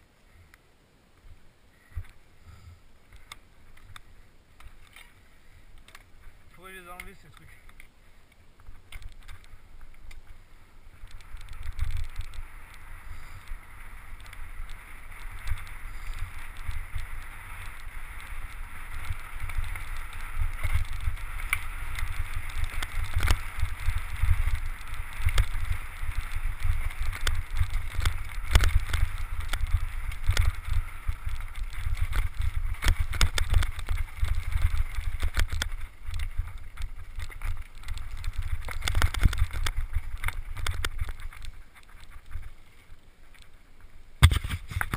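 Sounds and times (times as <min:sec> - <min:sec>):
bike tyre noise: 0:01.2 - 0:44.9
bike rattling over bumps: 0:08.6 - 0:44.9.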